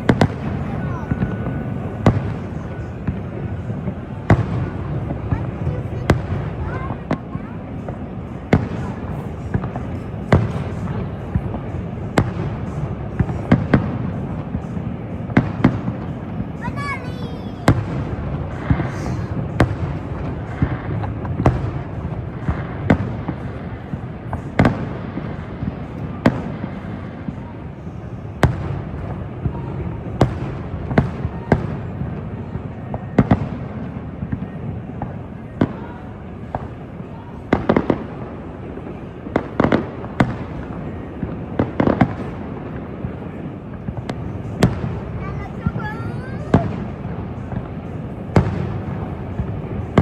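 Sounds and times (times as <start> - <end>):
fireworks bangs: 0.0 - 50.0
steady background hiss: 0.0 - 50.0.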